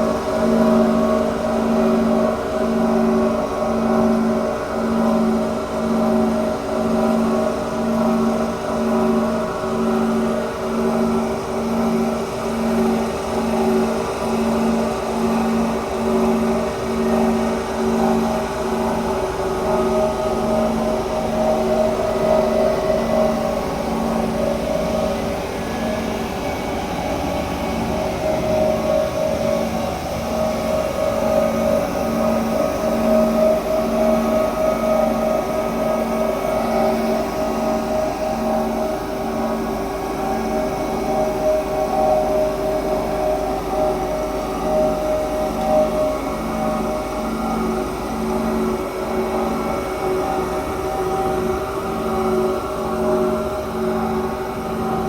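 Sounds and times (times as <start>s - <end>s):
road roller diesel engine pulsing: 0.0s - 55.0s.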